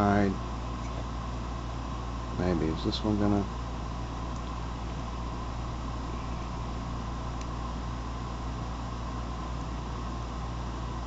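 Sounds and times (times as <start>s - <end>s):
room hum and hiss: 0.0s - 11.0s.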